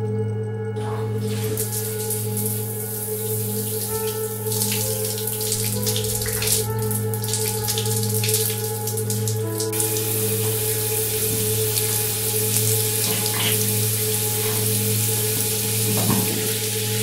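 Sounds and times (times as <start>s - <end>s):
low musical drone: 0.0s - 17.0s
shower water spraying: 0.8s - 17.0s.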